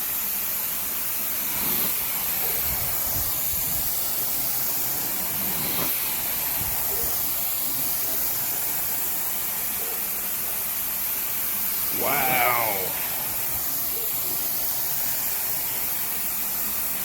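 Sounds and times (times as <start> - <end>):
carpet extraction wand hissing: 0.0 - 17.0.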